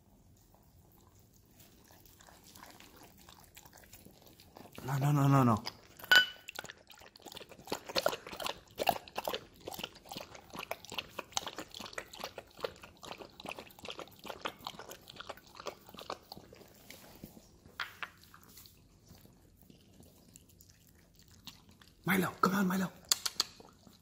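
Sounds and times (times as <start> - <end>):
dog chewing and smacking: 0.0 - 24.0.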